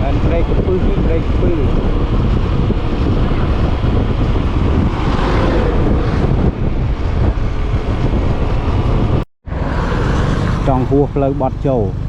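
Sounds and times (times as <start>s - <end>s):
wind buffeting microphone: 0.0s - 11.3s
vehicle rumble: 0.0s - 12.0s.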